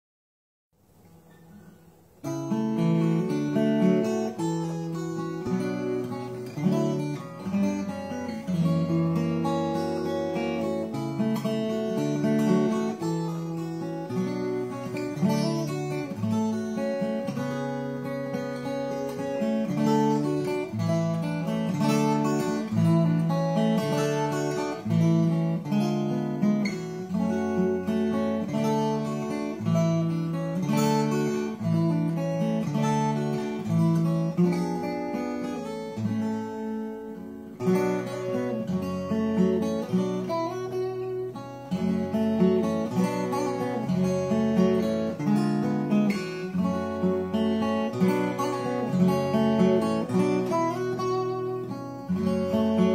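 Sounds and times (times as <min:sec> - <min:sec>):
acoustic guitar playing: 0:00.8 - 0:52.9.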